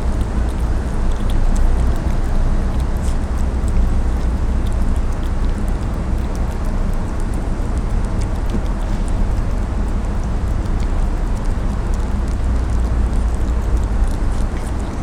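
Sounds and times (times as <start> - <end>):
faint light ticks: 0.0 - 15.0
low rumbling outdoor noise: 0.0 - 15.0.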